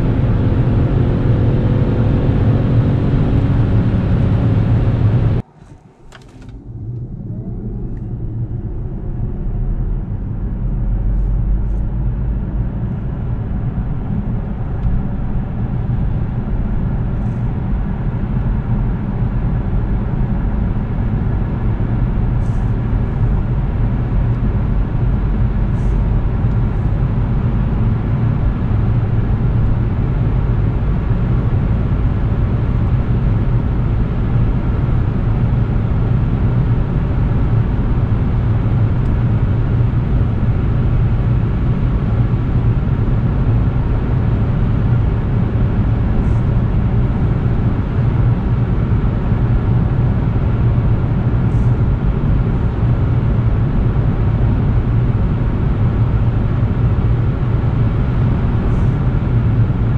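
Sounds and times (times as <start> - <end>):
car engine under load: 0.0 - 59.9.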